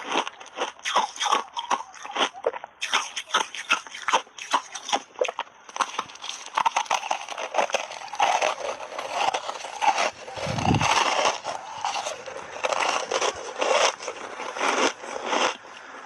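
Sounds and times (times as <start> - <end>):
ice being crunched: 0.0 - 16.0.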